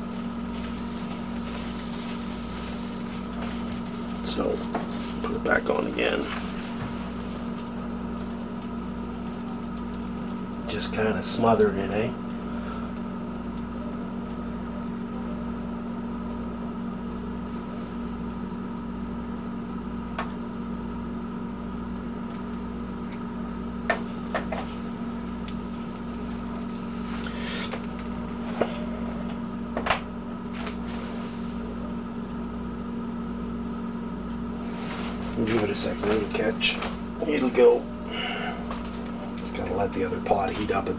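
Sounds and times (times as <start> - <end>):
low mechanical hum: 0.0 - 40.9.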